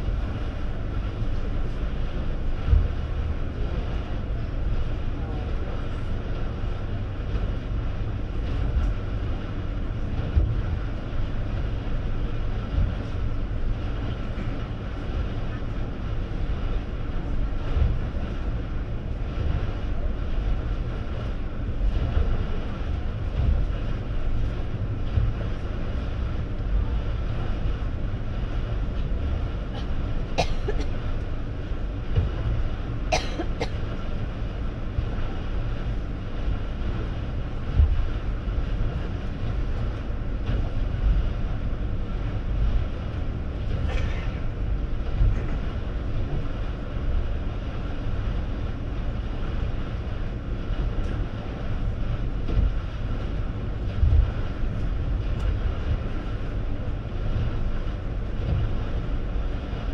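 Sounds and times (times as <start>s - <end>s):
ferry engines droning: 0.0s - 59.9s.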